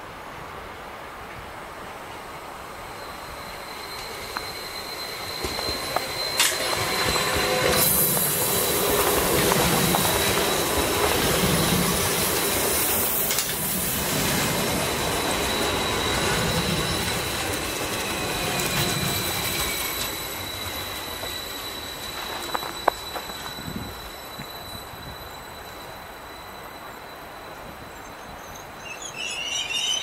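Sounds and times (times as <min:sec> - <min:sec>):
train wheels rumbling on rails: 0:01.4 - 0:28.3
high-pitched squeal: 0:02.8 - 0:28.0, 0:28.8 - 0:30.0.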